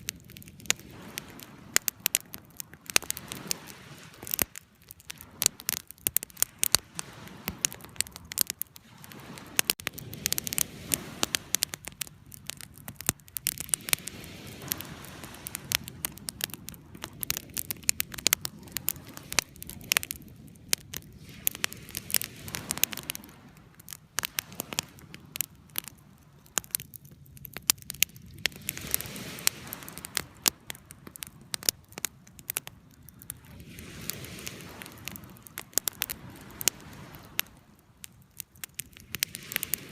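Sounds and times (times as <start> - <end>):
campfire crackling and popping: 0.0 - 39.9
waves washing in: 0.0 - 39.9.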